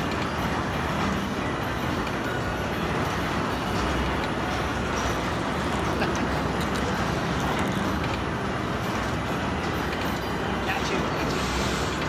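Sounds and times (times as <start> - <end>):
carousel turning: 0.0 - 12.0.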